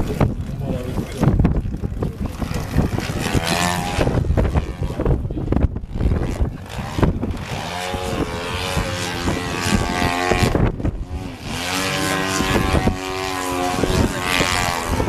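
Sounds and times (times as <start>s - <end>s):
model airplane engine and propeller: 0.0s - 15.0s.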